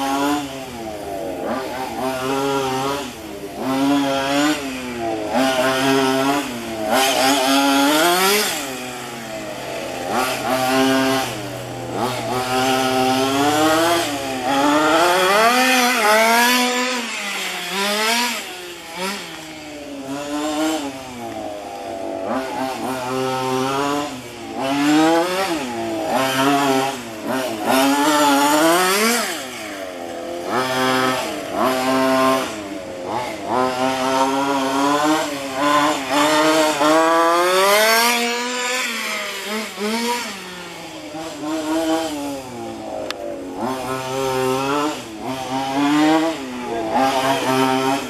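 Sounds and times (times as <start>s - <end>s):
small two-stroke engine revving: 0.0s - 48.0s.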